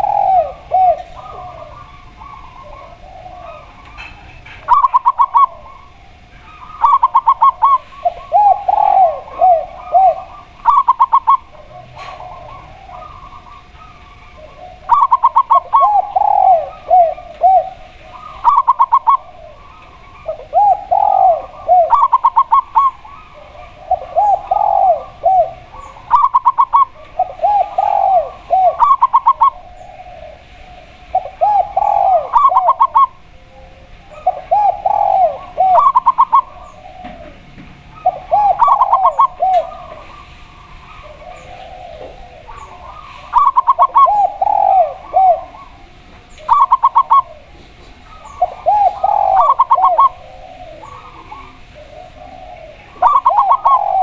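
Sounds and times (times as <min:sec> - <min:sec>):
dove long curving coos: 0:00.0 - 0:54.0
dove short clipped calls: 0:00.0 - 0:54.0.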